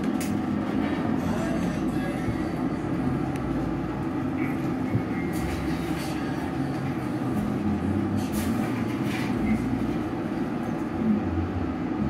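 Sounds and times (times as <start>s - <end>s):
gas burner and blower roaring: 0.0s - 12.0s.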